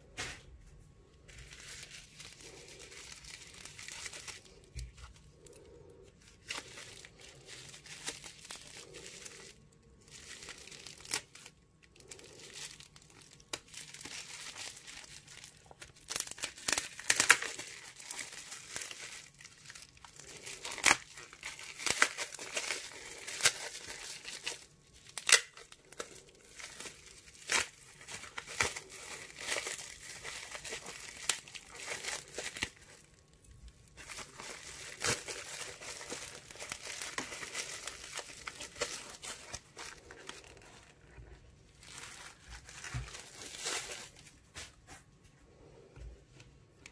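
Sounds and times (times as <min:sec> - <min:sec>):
bubble wrap crinkling and tearing: 0:01.1 - 0:45.9.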